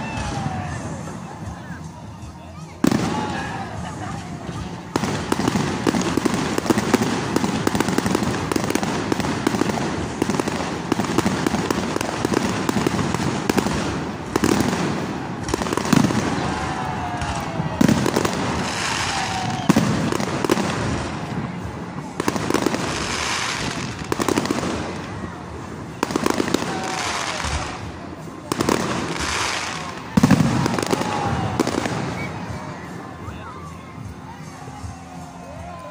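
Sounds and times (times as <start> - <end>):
fireworks crackling: 0.0 - 35.9
fireworks bangs: 2.8 - 33.1.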